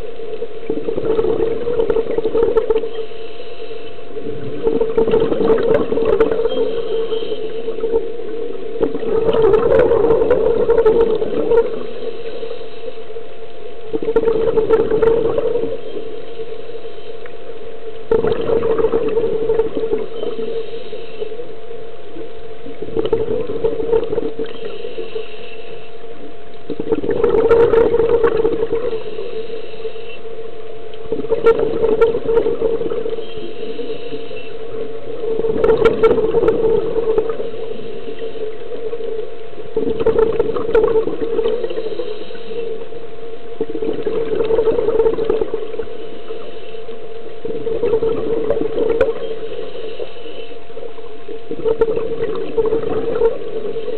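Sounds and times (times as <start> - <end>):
exhaled bubbles rushing: 0.0 - 3.1, 4.0 - 12.6, 13.4 - 16.3, 17.8 - 25.2, 26.3 - 29.5, 30.4 - 53.9
steady low hum: 0.0 - 53.9.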